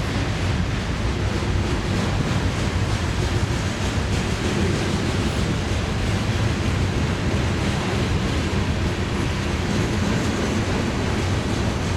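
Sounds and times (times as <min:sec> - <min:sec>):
freight train wheels on rails: 0:00.0 - 0:11.9.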